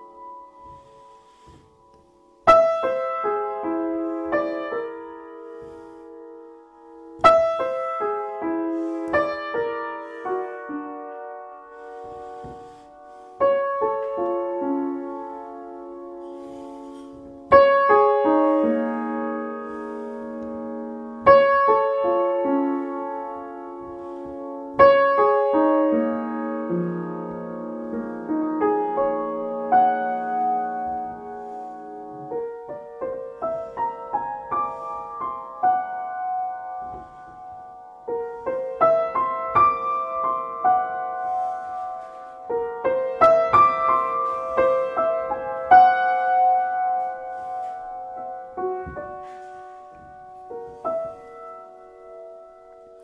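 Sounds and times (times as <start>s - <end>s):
solo piano playing: 0.0s - 53.0s.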